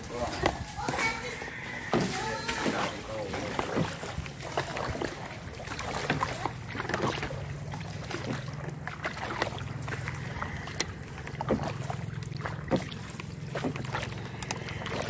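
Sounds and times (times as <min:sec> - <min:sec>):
small boat motor running: 0:00.0 - 0:15.0
water rushing along hull: 0:00.0 - 0:15.0.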